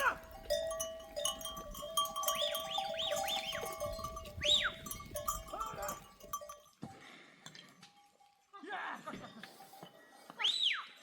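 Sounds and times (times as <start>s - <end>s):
goat neck bells ringing: 0.0s - 11.0s.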